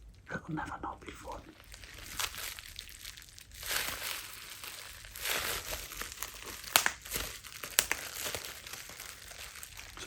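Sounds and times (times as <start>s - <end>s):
bubble wrap crinkling: 1.2s - 10.0s
bubble wrap pop: 1.8s - 10.0s.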